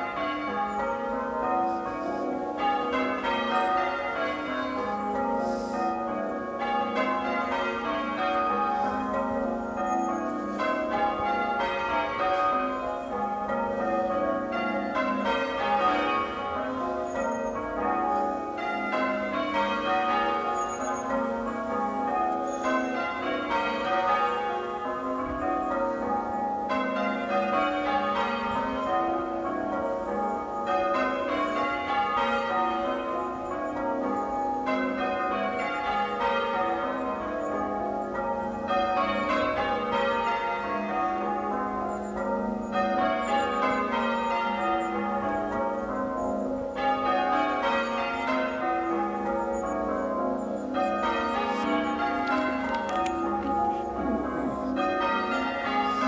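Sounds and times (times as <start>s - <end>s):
church bells change ringing: 0.0s - 56.0s.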